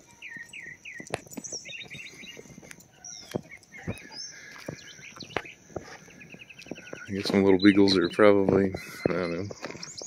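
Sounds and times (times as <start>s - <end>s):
small birds chirping: 0.0s - 10.0s
light knocks and crunches: 0.4s - 10.0s.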